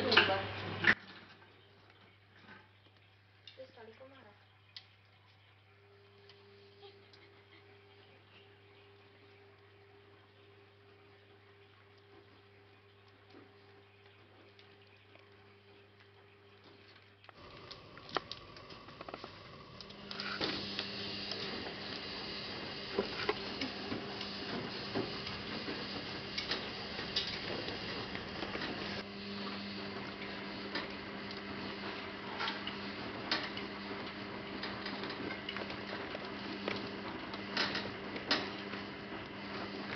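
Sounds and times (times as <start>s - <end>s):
mechanical whirr with low hum: 2.0s - 39.9s.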